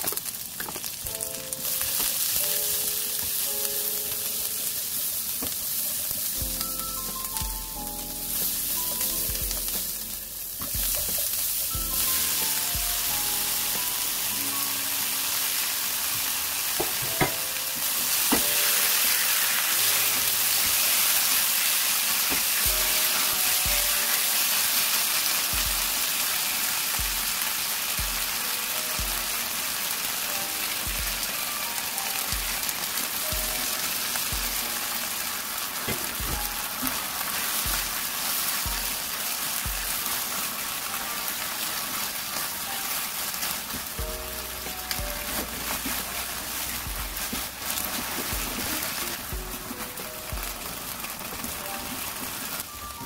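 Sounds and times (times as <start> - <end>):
food sizzling in hot oil: 0.0 - 53.0.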